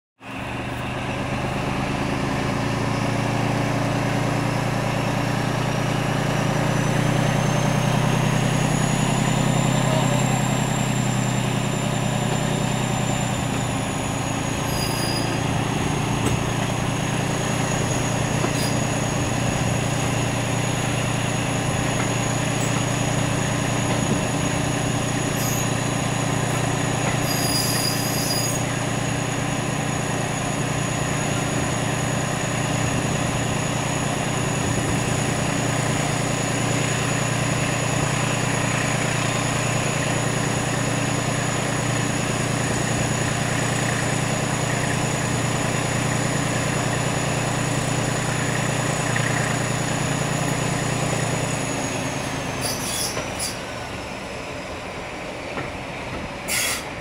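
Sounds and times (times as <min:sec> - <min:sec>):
locomotive engine hum: 0:00.2 - 0:57.0
train wheels rumbling on rail: 0:00.2 - 0:57.0
high wheel squeal: 0:05.4 - 0:55.6, 0:56.4 - 0:57.0.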